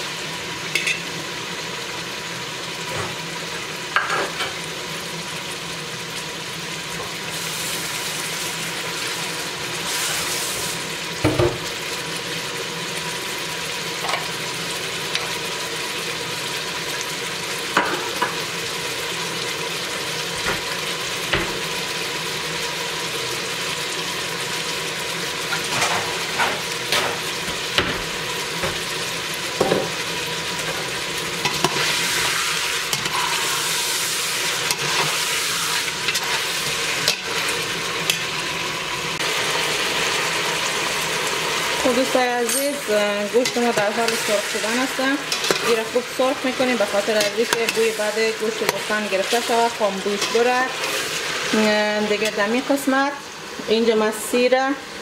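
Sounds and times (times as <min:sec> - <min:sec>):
meat sizzling in hot oil: 0:00.0 - 0:55.0.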